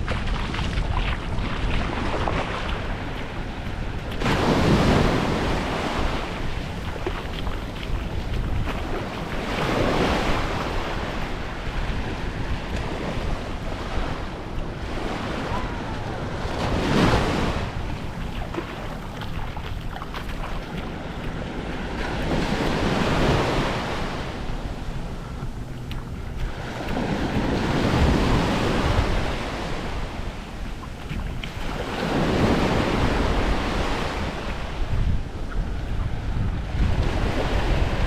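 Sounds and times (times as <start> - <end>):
small waves washing on beach: 0.0 - 38.0
wind rumble on microphone: 0.0 - 38.0.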